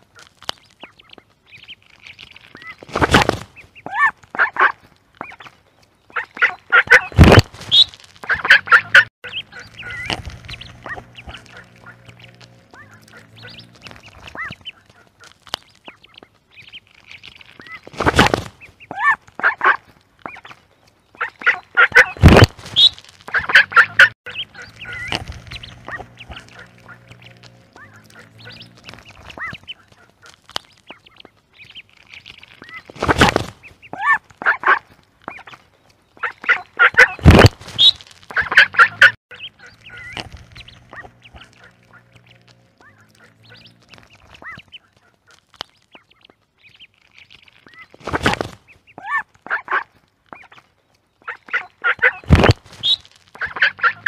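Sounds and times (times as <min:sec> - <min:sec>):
ducklings peeping: 0:00.0 - 0:54.0
ducks quacking: 0:03.8 - 0:46.3, 0:47.4 - 0:54.0.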